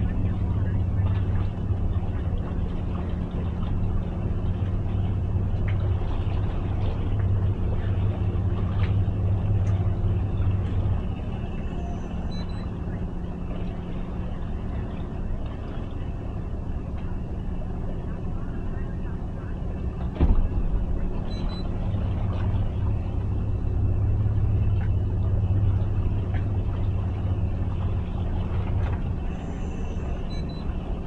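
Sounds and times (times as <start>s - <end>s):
outboard motors humming: 0.0s - 31.0s.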